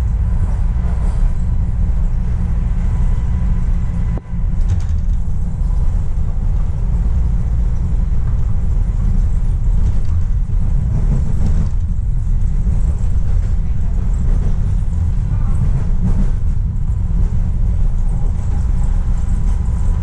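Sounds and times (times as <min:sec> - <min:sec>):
subway train wheels rumbling on rail: 0:00.0 - 0:20.0.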